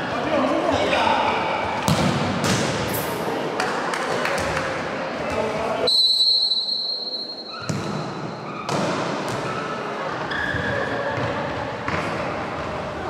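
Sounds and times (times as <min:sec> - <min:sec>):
echoing sports hall background noise: 0:00.0 - 0:13.0.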